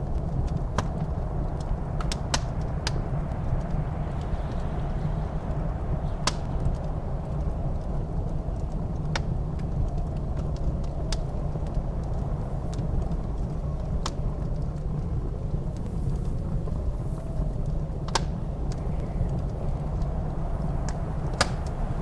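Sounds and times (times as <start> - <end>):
low rumble of blizzard wind: 0.0 - 22.0
wood fire crackling: 0.0 - 22.0
fire sharp pops: 0.1 - 22.0.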